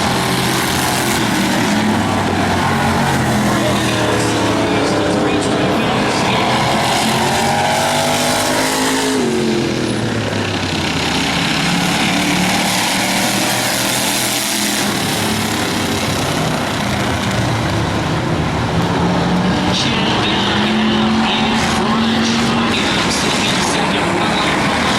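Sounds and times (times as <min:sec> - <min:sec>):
race car engines running: 0:00.0 - 0:24.9.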